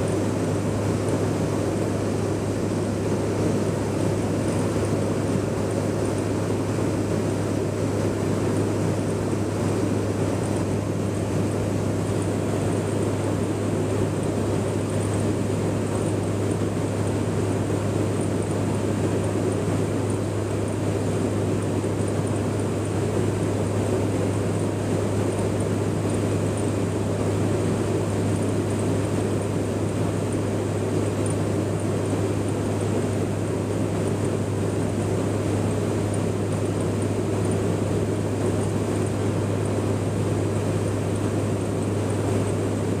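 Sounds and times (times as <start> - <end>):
turboprop engines droning: 0.0 - 43.0.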